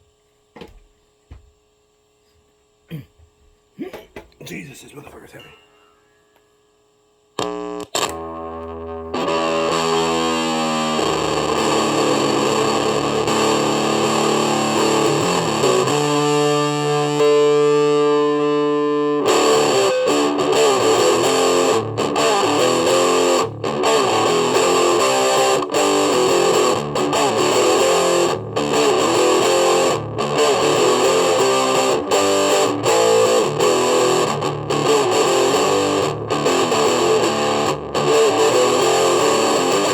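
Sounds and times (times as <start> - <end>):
distorted electric guitar: 2.9 - 39.9.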